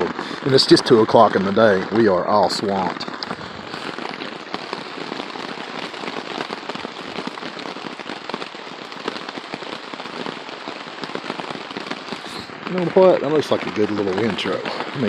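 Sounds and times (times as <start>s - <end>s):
heavy rain on hard surface: 0.0s - 15.0s.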